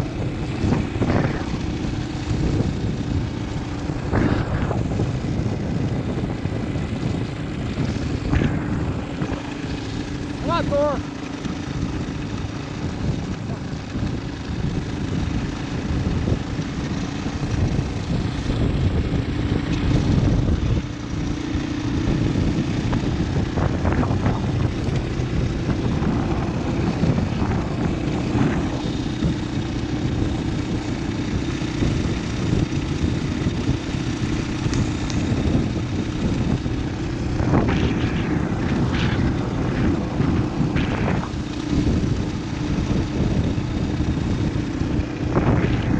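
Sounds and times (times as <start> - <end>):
motorcycle engine running: 0.0 - 45.9
wind rushing over microphone: 0.0 - 45.9.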